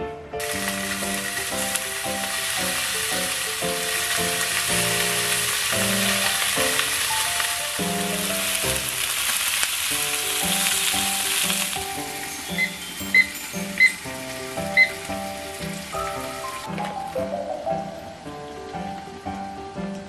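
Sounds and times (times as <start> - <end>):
food frying in a pan: 0.4 - 19.7.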